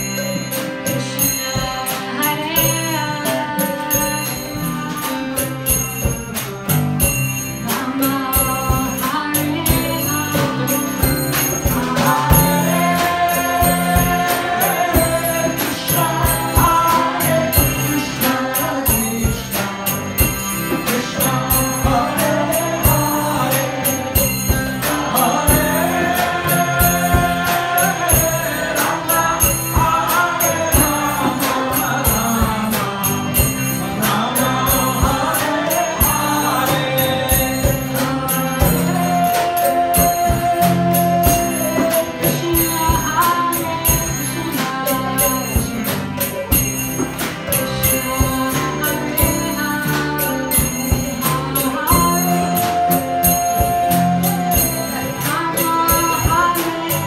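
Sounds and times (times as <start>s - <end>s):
band with drum kit and guitars: 0.0s - 57.0s
jingling hand cymbals: 0.0s - 57.0s
voices singing a devotional chant: 7.0s - 57.0s.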